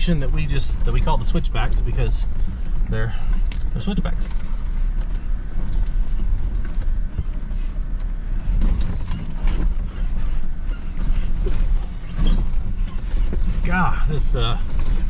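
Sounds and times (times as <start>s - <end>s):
vehicle engine low rumble: 0.0s - 15.0s
creaks and knocks: 2.6s - 15.0s.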